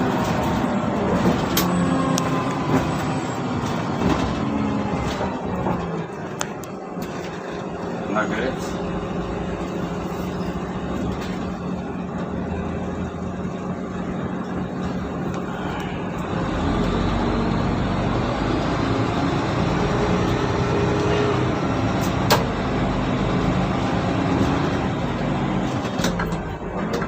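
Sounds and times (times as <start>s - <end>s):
bus engine humming: 0.0s - 27.0s.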